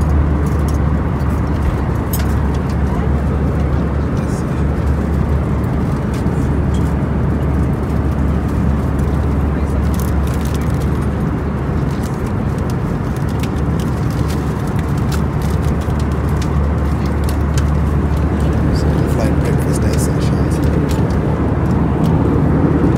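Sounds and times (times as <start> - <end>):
jet engine rumble: 0.0 - 22.9.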